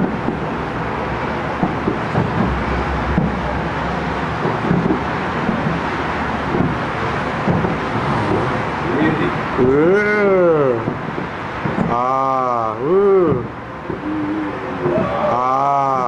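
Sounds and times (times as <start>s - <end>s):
distant fireworks bangs: 0.0s - 9.8s, 10.8s - 12.6s, 13.3s - 15.5s
city traffic: 0.0s - 16.0s.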